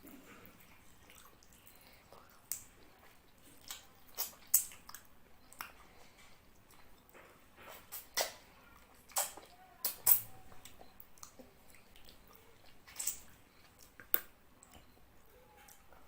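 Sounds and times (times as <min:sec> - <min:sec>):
wet chewing and smacking: 0:00.0 - 0:16.0
lip and mouth clicks: 0:00.1 - 0:15.0.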